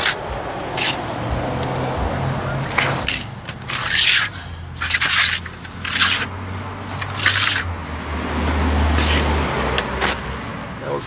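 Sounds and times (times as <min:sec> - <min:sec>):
steel trowels scraping: 0:00.0 - 0:01.4, 0:02.7 - 0:10.2.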